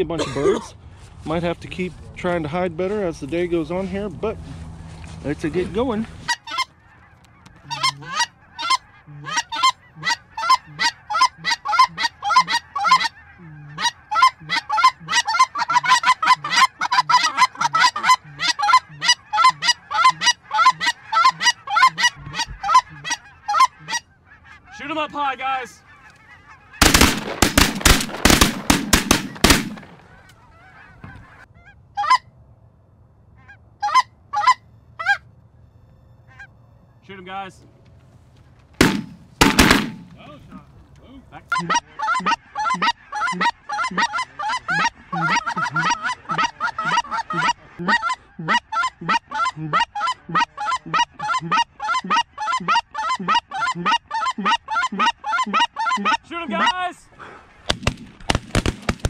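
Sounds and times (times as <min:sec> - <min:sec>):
geese honking and clucking: 0:02.4 - 0:32.4, 0:33.3 - 0:58.9.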